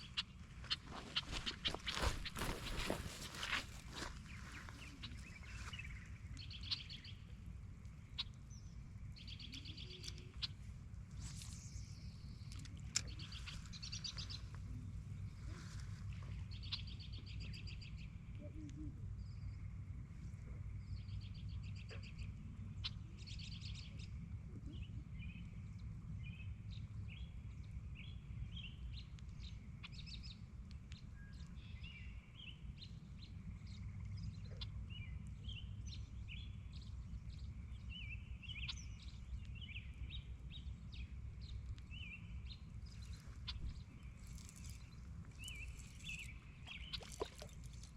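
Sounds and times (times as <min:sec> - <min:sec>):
songbirds trilling and chirping: 0:00.0 - 0:47.9
low steady rumble: 0:03.0 - 0:47.9.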